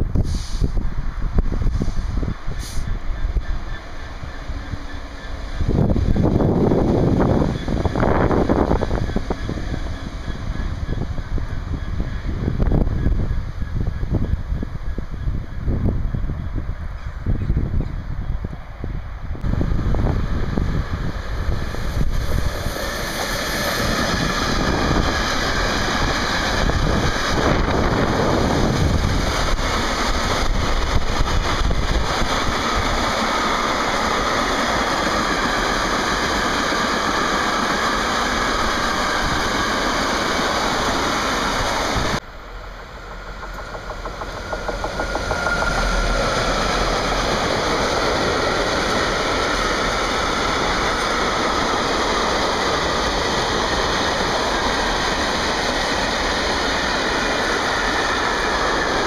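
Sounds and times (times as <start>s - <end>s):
freight train rumble: 0.0s - 59.0s.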